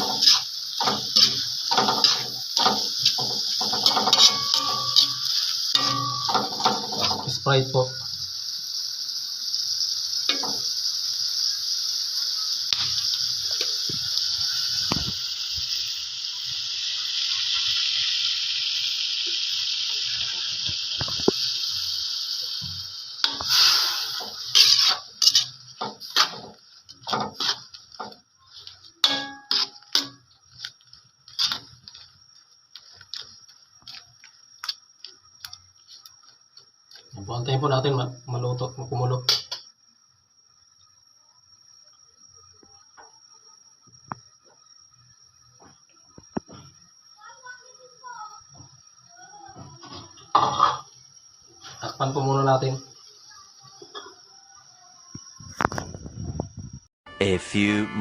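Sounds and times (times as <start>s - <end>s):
shrimp sizzling in a pan: 0.0s - 55.8s.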